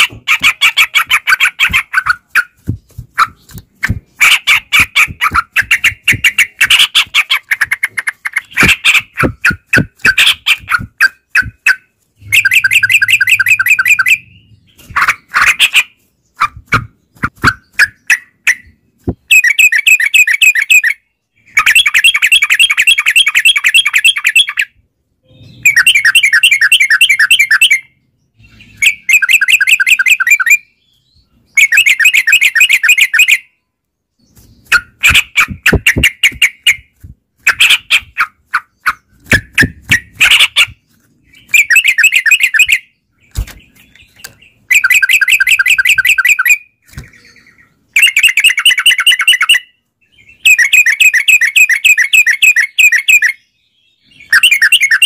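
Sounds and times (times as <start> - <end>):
birds chattering calls: 0.0 - 55.0.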